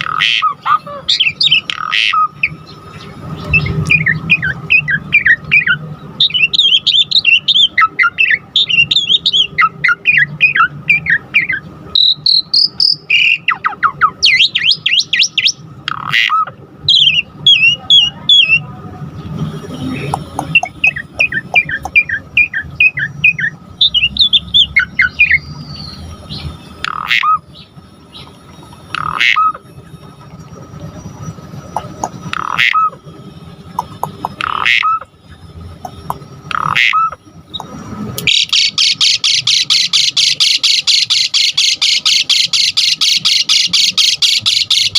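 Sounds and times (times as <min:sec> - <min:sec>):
starling singing: 0:00.0 - 0:30.1, 0:31.2 - 0:44.9.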